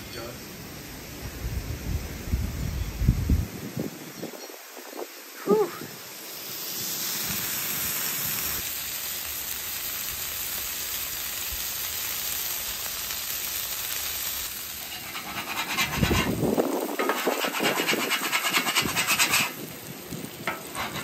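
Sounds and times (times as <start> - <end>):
patties sizzling on a griddle: 0.0 - 21.0.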